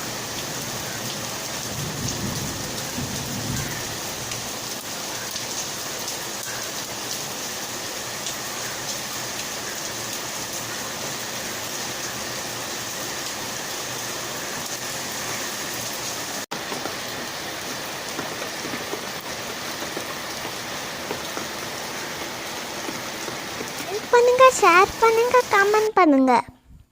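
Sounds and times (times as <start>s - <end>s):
rain spattering on surfaces: 0.0s - 25.9s.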